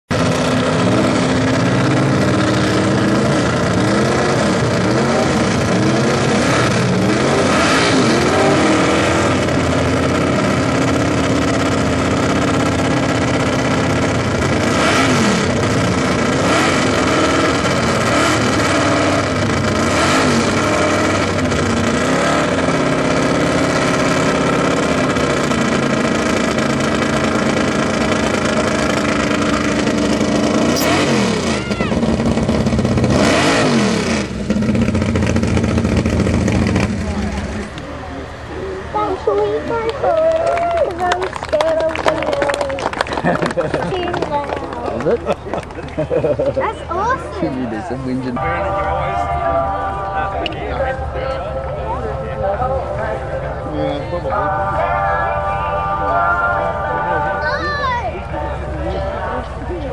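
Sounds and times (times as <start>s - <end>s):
engine throttle blips: 0.1s - 59.9s
loud engine idling: 0.1s - 59.9s.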